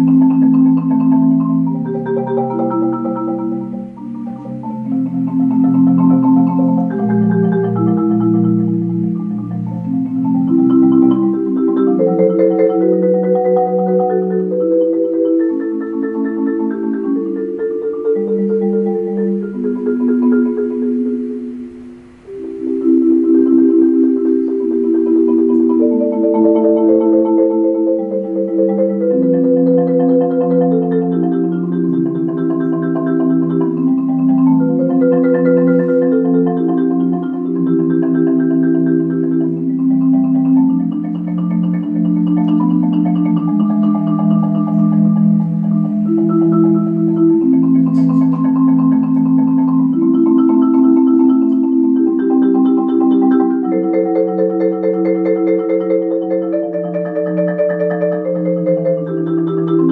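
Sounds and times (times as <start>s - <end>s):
marimba played with mallets: 0.0s - 59.9s.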